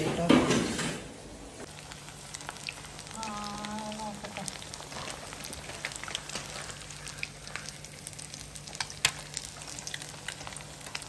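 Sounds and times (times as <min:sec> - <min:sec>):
eggs deep-frying in hot oil: 0:01.5 - 0:11.0.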